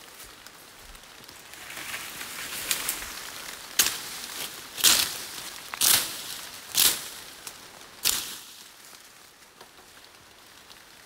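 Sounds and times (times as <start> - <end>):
leaves swishing against body: 0.0 - 10.1
footsteps through wet undergrowth: 0.0 - 10.9
rain hiss: 0.0 - 11.0.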